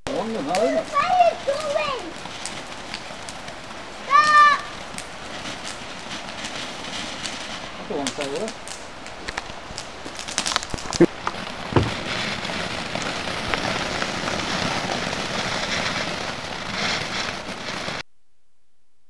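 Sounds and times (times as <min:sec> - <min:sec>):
firework pops: 0:00.0 - 0:18.0
firework crackling: 0:00.0 - 0:18.1.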